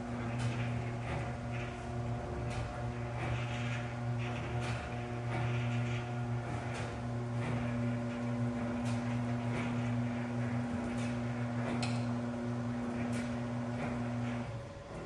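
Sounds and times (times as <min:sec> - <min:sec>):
garage door motor hum: 0:00.0 - 0:15.0.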